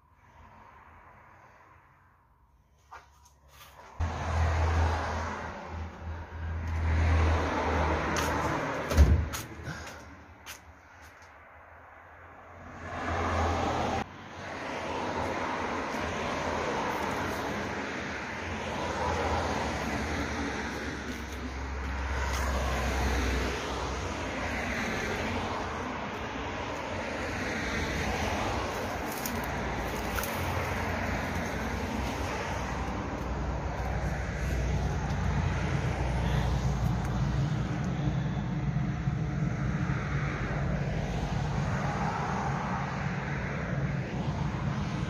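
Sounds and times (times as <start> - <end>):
cars passing: 0.0 - 45.0
low traffic rumble: 0.0 - 45.0.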